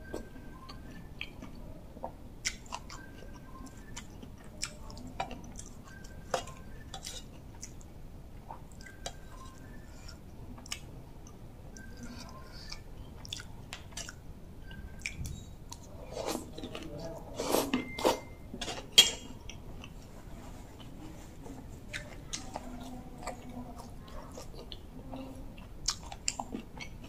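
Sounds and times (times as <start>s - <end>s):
chewing and mouth noises: 0.0s - 20.1s, 20.7s - 27.0s.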